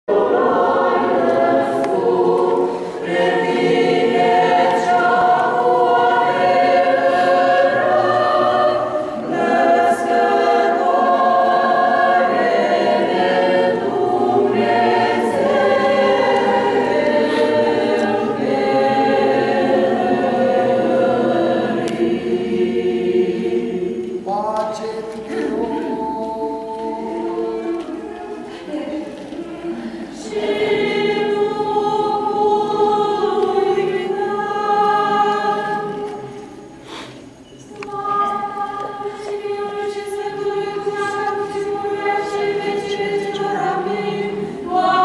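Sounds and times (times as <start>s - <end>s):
mixed choir singing a cappella: 0.0s - 45.0s.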